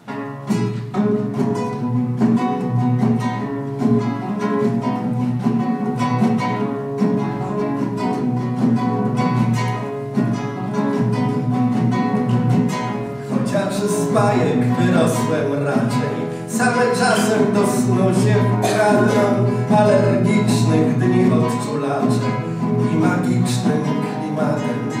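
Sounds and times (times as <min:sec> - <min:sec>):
acoustic guitar plucked: 0:00.0 - 0:25.0.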